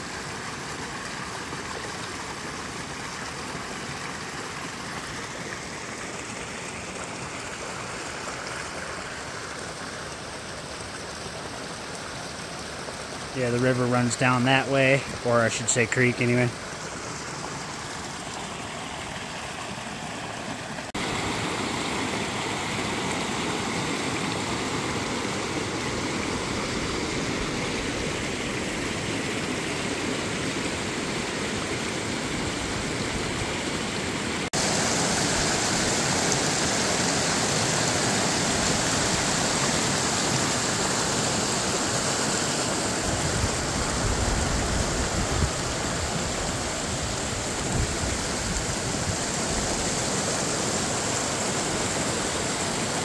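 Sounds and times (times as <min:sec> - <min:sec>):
creek rushing over rocks: 0:00.0 - 0:53.0.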